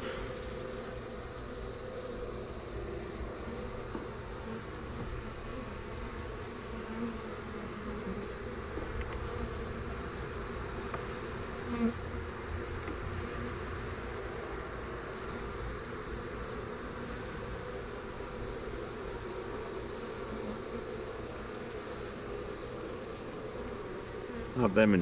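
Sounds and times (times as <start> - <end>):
bee flying close past: 0.0 - 25.0.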